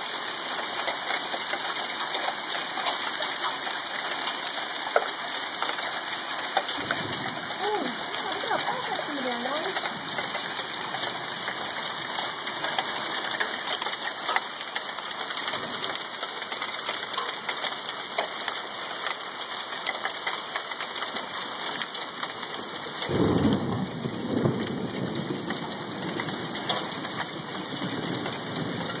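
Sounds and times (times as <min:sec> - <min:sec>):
hail and rain falling: 0:00.0 - 0:29.0.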